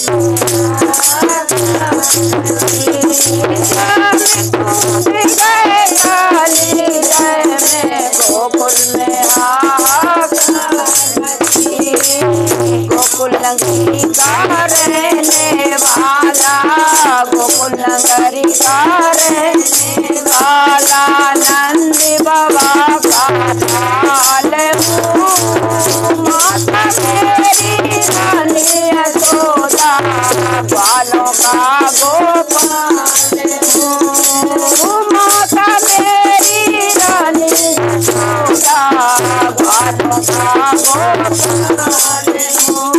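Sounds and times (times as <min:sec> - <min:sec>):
group of women singing: 0:00.0 - 0:42.9
shaken rattle: 0:00.0 - 0:42.9.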